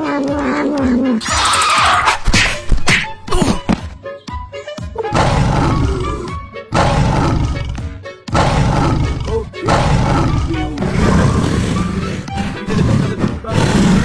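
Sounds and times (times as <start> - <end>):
music track: 0.0 - 14.0.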